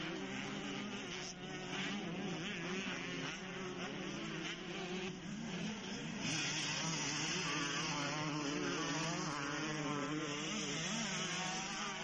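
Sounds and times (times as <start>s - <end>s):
distant motocross bike engines buzzing: 0.0s - 12.0s.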